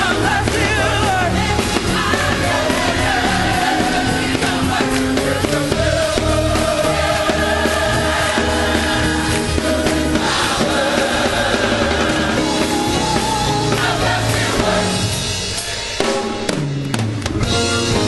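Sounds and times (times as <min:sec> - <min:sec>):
bass line: 0:00.0 - 0:15.5
drum kit beat: 0:00.0 - 0:18.0
keyboard chords: 0:00.0 - 0:18.0.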